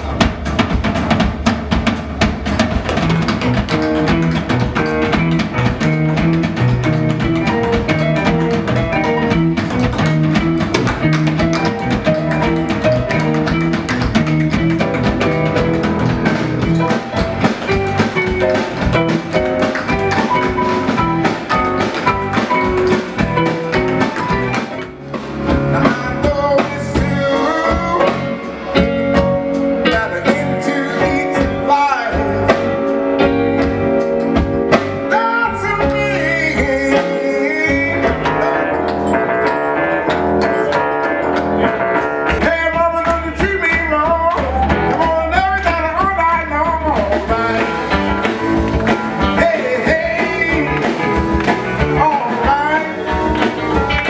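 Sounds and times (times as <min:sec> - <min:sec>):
bass guitar: 0:00.0 - 0:54.0
drum kit: 0:00.0 - 0:54.0
electric guitar: 0:00.0 - 0:54.0.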